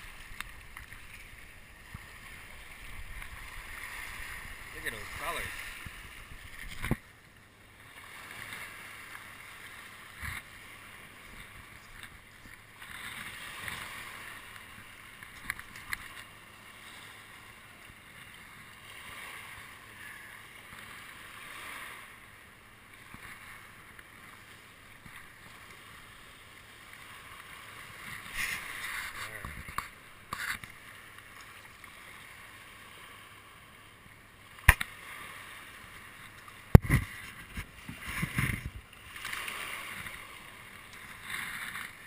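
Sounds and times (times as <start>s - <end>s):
small waves over rocks: 0.0s - 42.0s.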